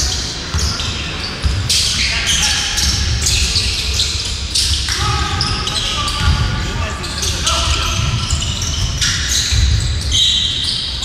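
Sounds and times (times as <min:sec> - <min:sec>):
voices echoing: 0:00.0 - 0:11.0.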